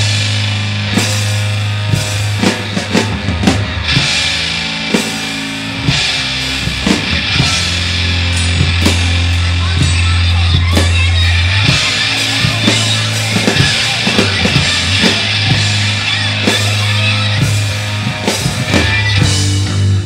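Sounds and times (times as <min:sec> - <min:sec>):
drum kit hits: 0:00.0 - 0:20.0
guitar and effects: 0:00.0 - 0:20.0.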